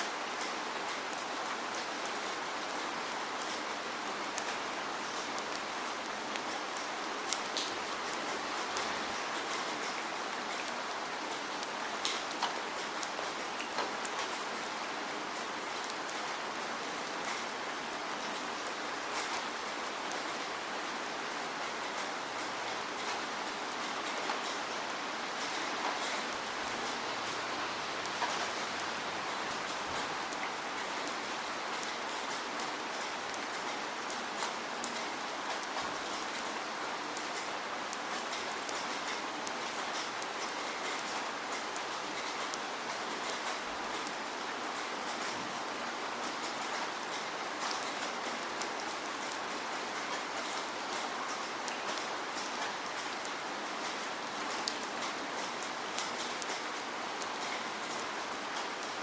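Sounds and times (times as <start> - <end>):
steady rain falling: 0.0 - 59.0
raindrop ticks: 0.4 - 14.8, 21.6 - 59.0.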